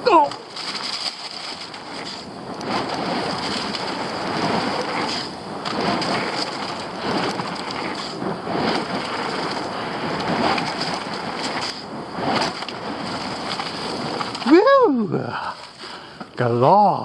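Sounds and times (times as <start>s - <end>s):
bike tyres splattering through mud: 0.4s - 14.9s.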